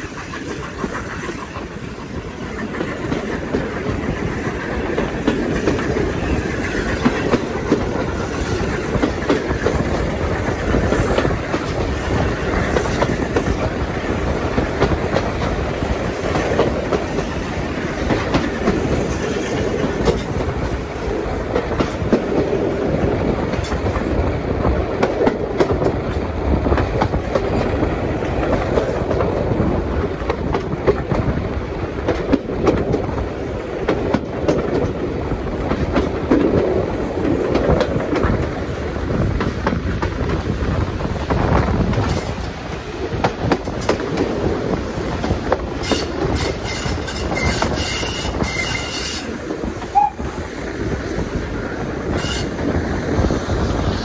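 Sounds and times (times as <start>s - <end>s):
train carriages rumbling: 0.0s - 54.0s
train wheels clicking over rail joints: 0.0s - 54.0s.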